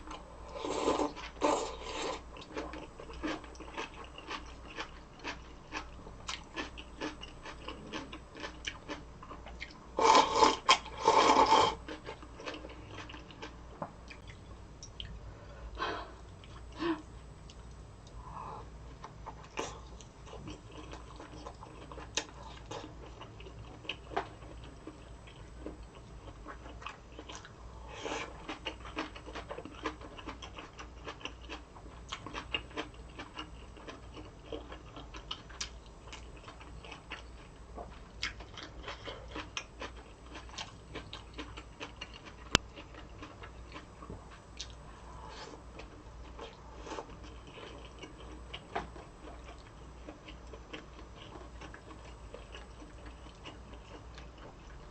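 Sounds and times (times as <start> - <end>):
crunchy chewing: 0.1 - 15.1, 18.9 - 54.9.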